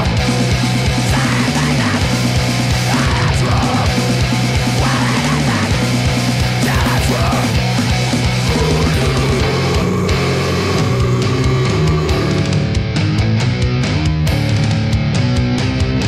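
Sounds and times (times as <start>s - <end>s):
fast dense drumming: 0.0s - 14.8s
distorted low guitar riff: 0.0s - 16.0s.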